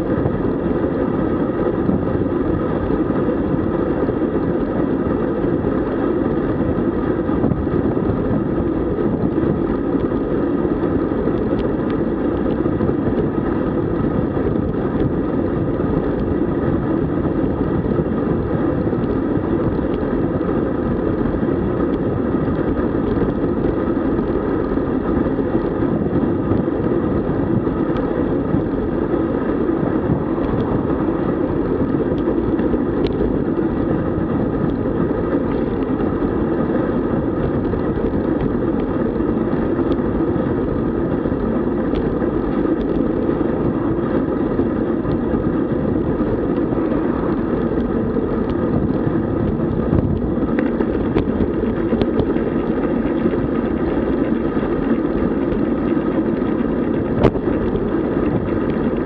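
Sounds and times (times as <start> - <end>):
wind buffeting and road noise: 0.0 - 59.0.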